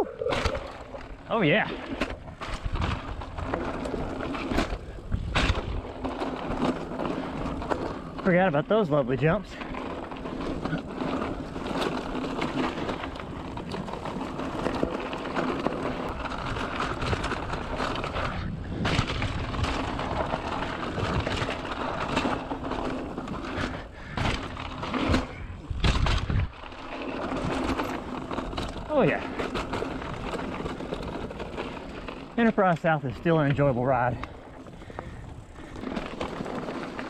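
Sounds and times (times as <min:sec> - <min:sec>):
bike rattling: 0:00.0 - 0:37.0
bike tyres crunching on gravel: 0:00.0 - 0:37.0.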